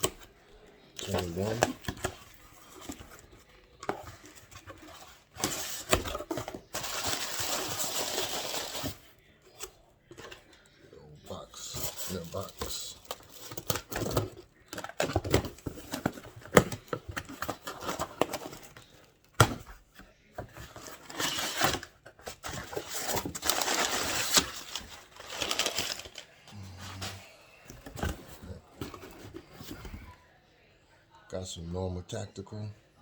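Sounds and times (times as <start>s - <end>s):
cardboard rustling and tearing: 1.0s - 10.5s, 11.6s - 19.8s, 20.4s - 30.1s.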